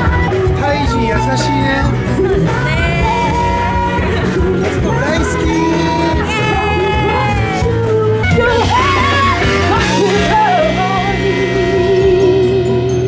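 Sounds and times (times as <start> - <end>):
live pop band playing: 0.0 - 13.0
woman singing: 0.0 - 13.0.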